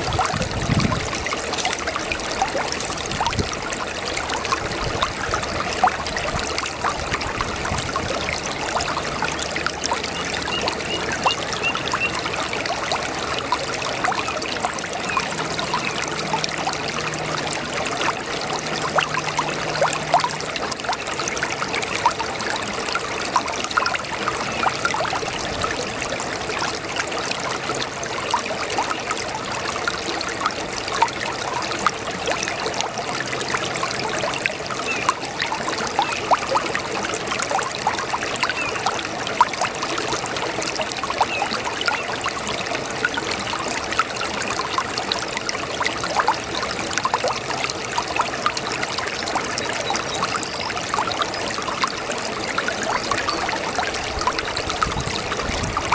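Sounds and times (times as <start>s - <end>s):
brook babbling: 0.0s - 55.9s.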